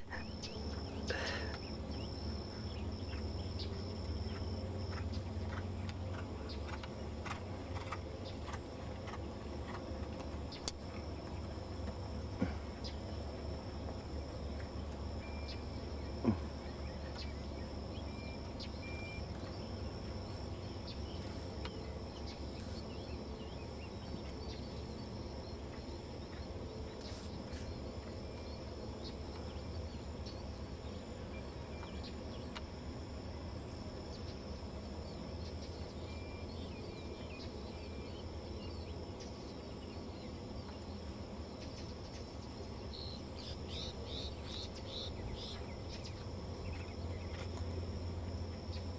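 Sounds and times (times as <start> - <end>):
faint insect drone: 0.0 - 48.9
low steady hum: 0.0 - 48.9.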